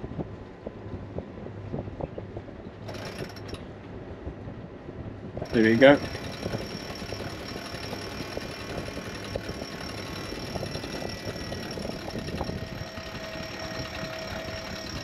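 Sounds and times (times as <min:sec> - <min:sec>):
boat engine running at low revs: 0:00.0 - 0:15.0.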